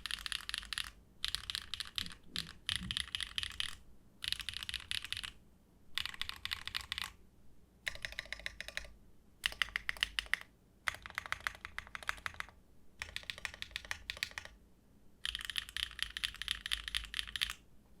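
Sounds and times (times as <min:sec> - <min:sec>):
mechanical keyboard typing: 0:00.0 - 0:05.4, 0:06.0 - 0:07.2, 0:07.9 - 0:14.6, 0:15.2 - 0:17.6.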